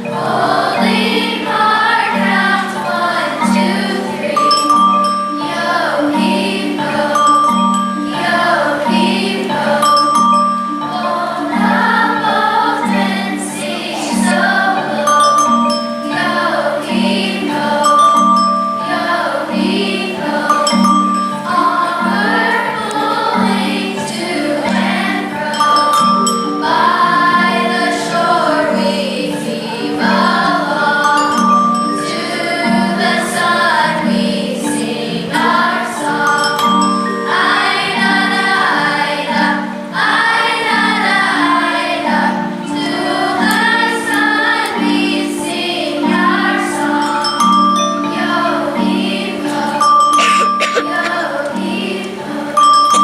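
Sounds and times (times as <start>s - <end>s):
choir singing: 0.0s - 53.0s
mallet percussion: 0.0s - 53.0s.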